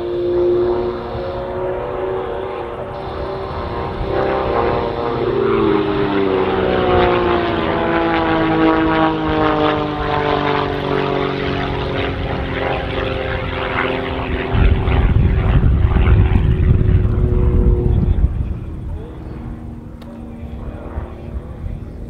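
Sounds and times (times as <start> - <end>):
loud low rumble: 0.0 - 10.0, 14.0 - 22.0
propeller engine droning: 0.0 - 22.0.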